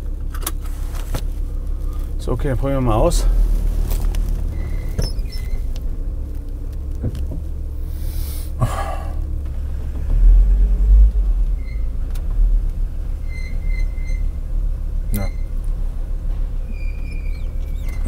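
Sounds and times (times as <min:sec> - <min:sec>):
van engine rumbling: 0:00.0 - 0:18.0.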